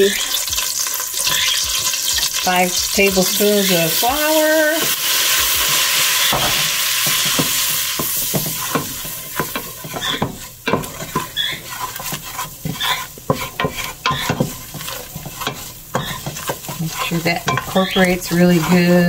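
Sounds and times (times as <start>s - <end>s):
roux sizzling in a pot: 0.0s - 19.0s
wooden spoon scraping a pot: 0.0s - 19.0s.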